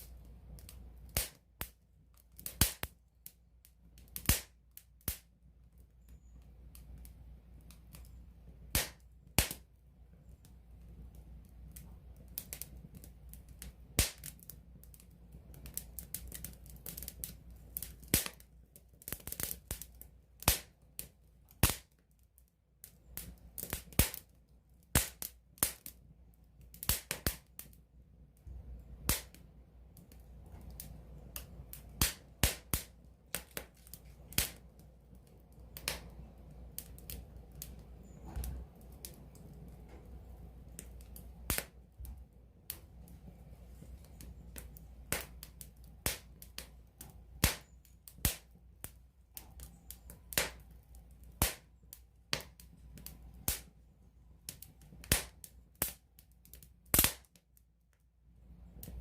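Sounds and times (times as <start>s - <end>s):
campfire crackling: 0.0s - 59.0s
low rumble of flames: 0.0s - 59.0s.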